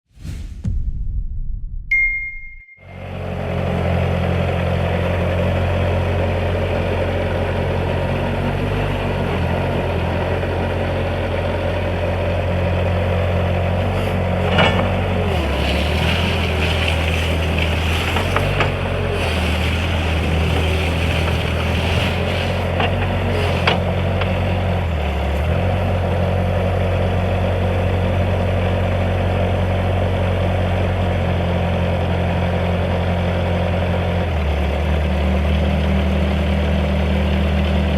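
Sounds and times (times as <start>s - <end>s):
diesel engine running: 2.8s - 37.9s.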